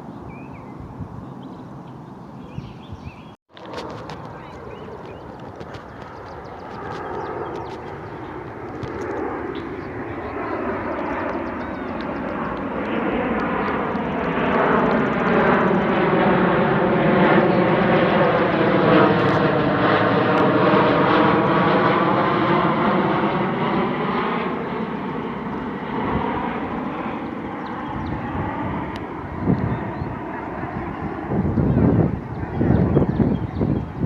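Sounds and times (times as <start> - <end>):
airplane passing overhead: 0.0 - 34.0.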